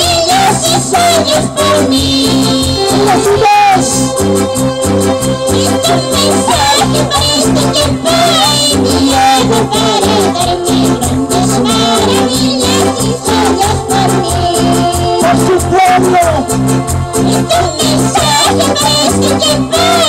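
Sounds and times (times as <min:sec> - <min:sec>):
people singing: 0:00.0 - 0:16.4, 0:17.2 - 0:20.0
electronic keyboard: 0:00.0 - 0:20.0.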